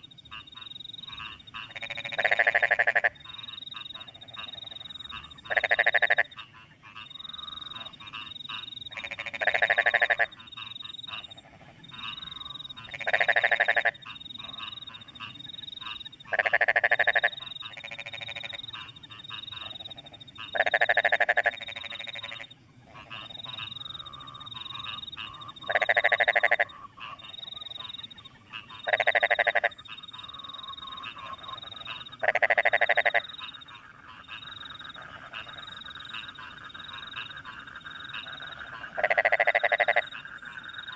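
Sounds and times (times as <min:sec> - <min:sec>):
crickets chirping: 0:00.0 - 0:40.9
frogs croaking: 0:00.0 - 0:40.9.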